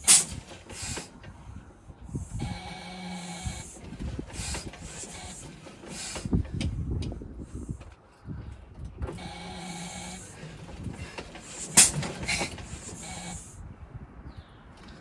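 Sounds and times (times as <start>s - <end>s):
engine hand cranking clunks and whirring: 0.0s - 13.6s.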